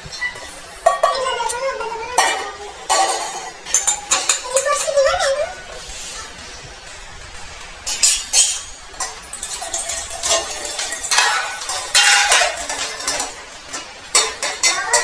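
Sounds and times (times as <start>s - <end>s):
metal utensils clinking on dishes: 0.0s - 5.7s, 7.8s - 15.0s.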